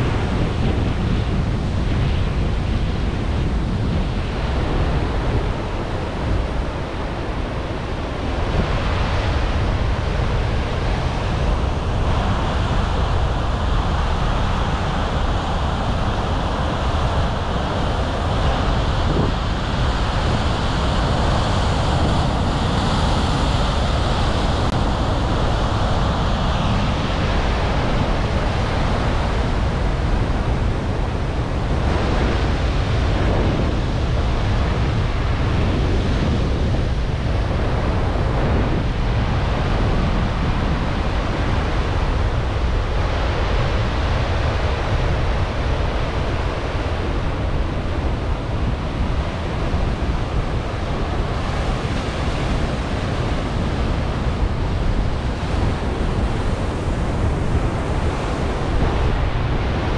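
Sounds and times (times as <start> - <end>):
surf crashing over rocks: 0.0 - 59.9
wind buffeting microphone: 0.0 - 59.9.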